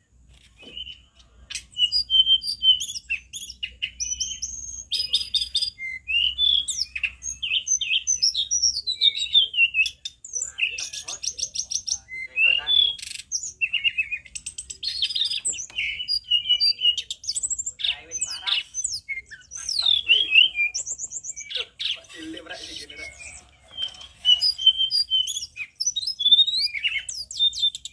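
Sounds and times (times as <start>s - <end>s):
bird singing whistled notes and trills: 0.0s - 27.9s.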